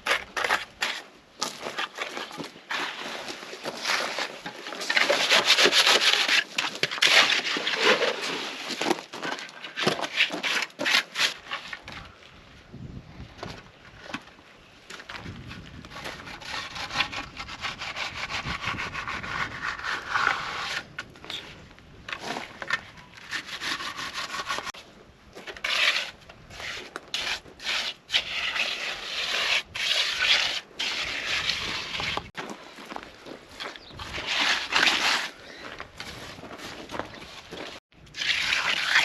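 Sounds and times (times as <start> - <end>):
hand tool scraping concrete: 0.0 - 12.0, 15.8 - 24.8, 25.4 - 32.4, 33.6 - 39.0.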